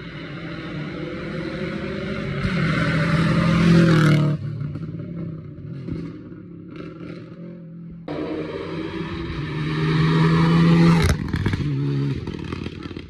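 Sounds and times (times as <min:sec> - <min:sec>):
rally car engine passing by: 0:00.0 - 0:13.0.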